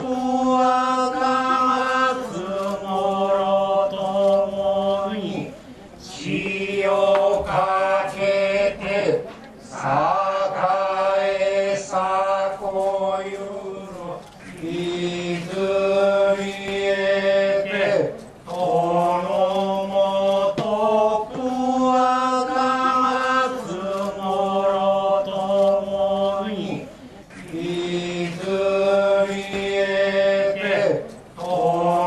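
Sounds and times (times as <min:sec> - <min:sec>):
voices chanting in held tones: 0:00.0 - 0:32.0.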